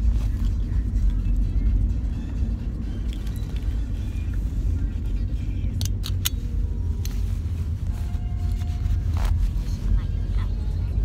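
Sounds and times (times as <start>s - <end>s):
road rumble inside car: 0.0s - 11.0s.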